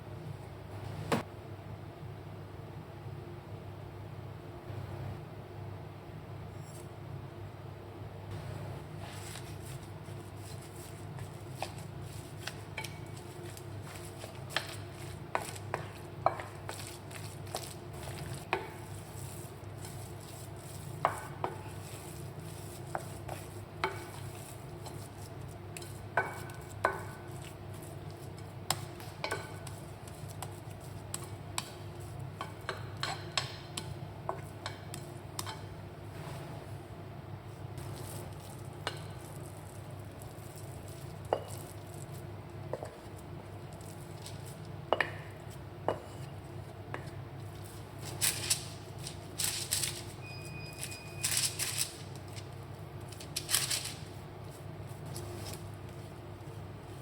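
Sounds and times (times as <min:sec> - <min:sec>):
stirring in a bowl: 0:08.8 - 0:36.4, 0:37.4 - 0:57.0.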